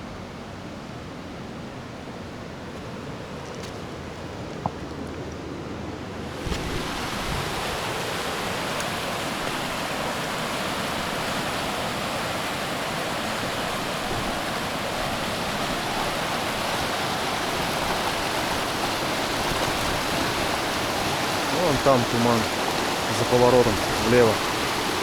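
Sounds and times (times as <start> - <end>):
river rushing: 0.1 - 25.0.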